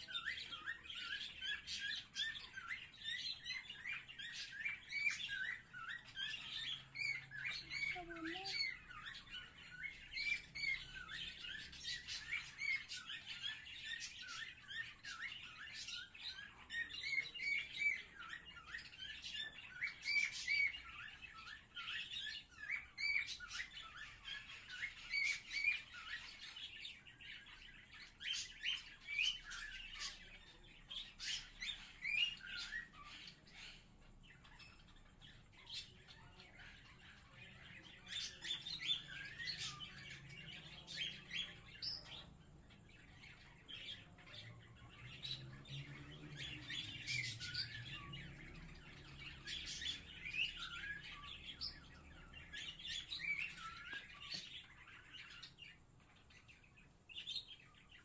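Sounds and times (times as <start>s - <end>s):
pet birds chirping: 0.0s - 58.0s.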